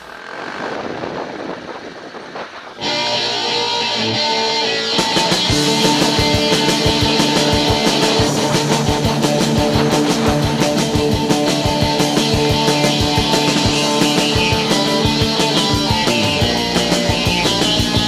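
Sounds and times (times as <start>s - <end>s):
instrumental rock music: 2.7s - 18.0s.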